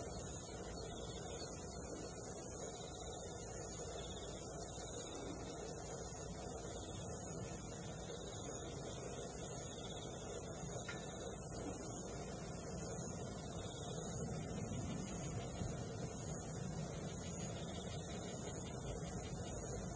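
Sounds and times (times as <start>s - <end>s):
pulsed insect chirp: 0.0s - 19.9s.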